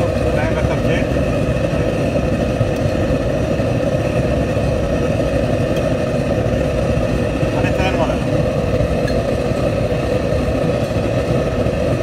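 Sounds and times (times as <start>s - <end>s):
kitchen equipment roaring: 0.0s - 12.0s.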